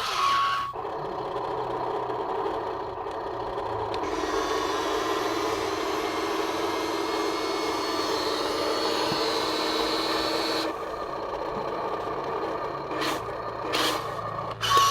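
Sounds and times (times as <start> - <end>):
model machine motor humming: 0.0 - 14.9.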